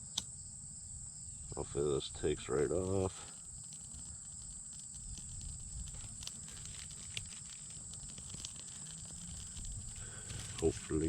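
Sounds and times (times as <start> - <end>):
campfire crackling: 0.0 - 11.0
insects droning: 0.0 - 11.0.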